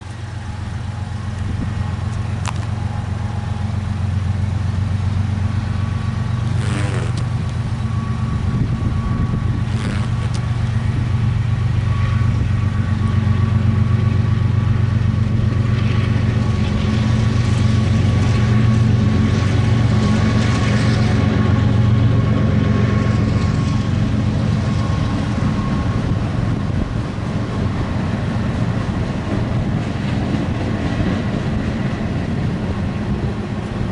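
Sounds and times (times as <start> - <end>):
diesel locomotive rumble: 0.0 - 33.9.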